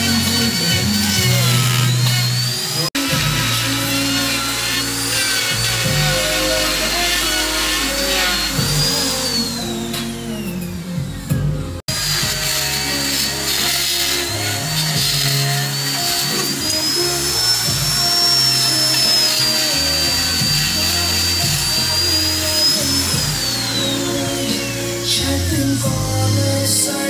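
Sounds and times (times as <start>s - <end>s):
background music: 0.0s - 27.0s
die grinder whining into wood: 0.0s - 27.0s.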